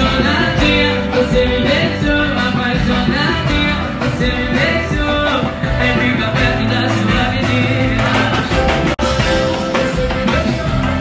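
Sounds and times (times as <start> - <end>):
live band music: 0.0 - 11.0.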